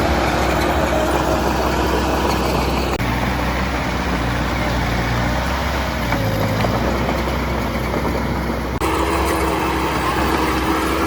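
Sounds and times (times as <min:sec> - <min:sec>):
diesel machinery engine hum: 0:00.0 - 0:11.0.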